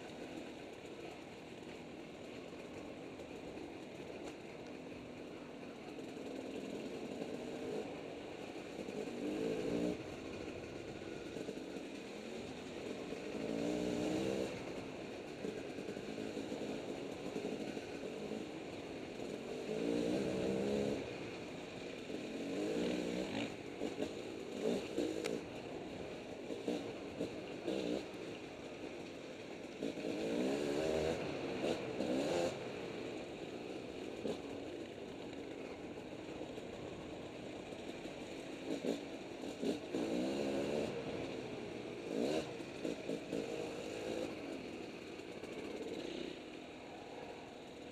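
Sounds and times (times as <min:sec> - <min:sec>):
two-stroke dirt bike engine revving: 0:05.2 - 0:47.9.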